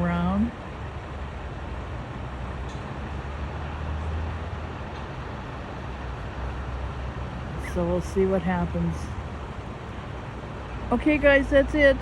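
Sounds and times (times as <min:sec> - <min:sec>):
engine rumbling: 0:00.0 - 0:12.0
traffic noise: 0:00.0 - 0:12.0.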